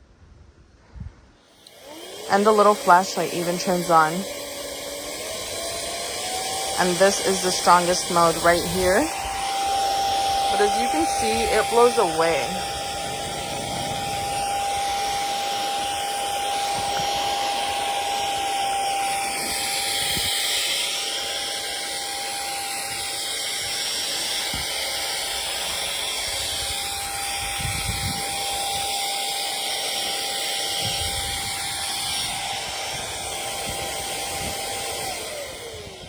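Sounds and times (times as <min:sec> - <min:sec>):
air duster fan whine: 0:01.2 - 0:36.0.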